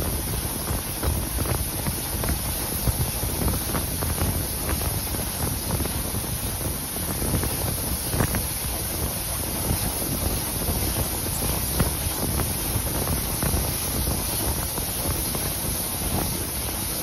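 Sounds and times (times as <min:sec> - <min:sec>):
steam train running: 0:00.0 - 0:17.0
wind buffeting microphone: 0:00.0 - 0:17.0.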